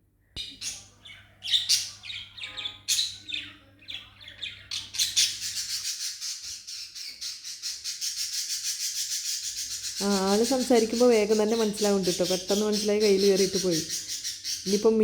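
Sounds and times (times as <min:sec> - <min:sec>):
birds squawking and chirping: 0:00.4 - 0:15.0.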